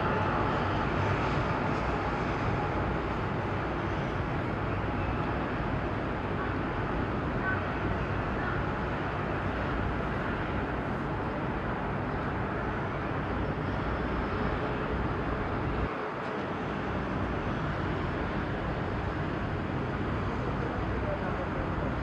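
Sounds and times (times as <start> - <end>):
harbour low rumble: 0.0 - 22.0.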